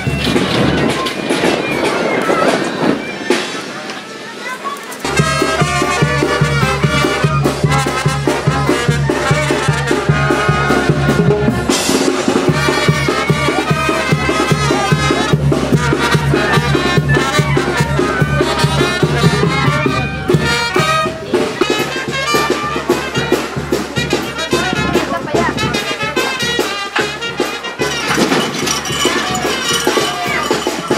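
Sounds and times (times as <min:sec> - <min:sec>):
trumpets: 0:00.0 - 0:30.9
brass band music: 0:05.0 - 0:30.9
steady drum beat: 0:05.0 - 0:30.9.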